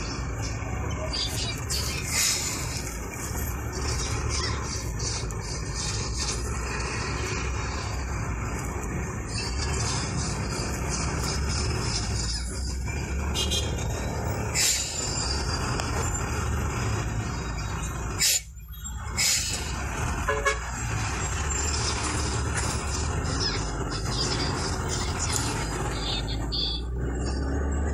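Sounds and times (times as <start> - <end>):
engine and road rumble: 0.0 - 27.9.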